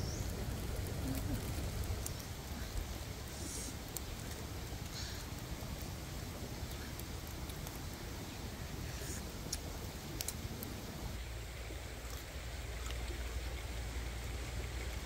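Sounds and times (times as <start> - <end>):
fire crackles: 0.0 - 15.0
wood fire rumbling: 0.0 - 15.0.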